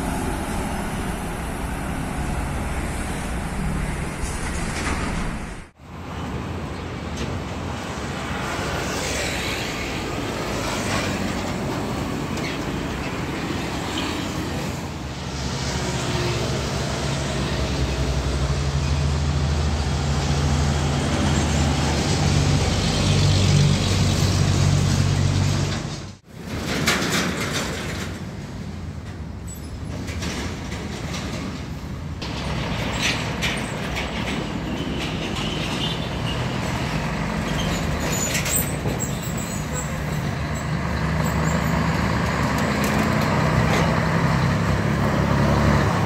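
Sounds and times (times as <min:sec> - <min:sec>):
diesel trucks passing: 0:00.0 - 0:46.0.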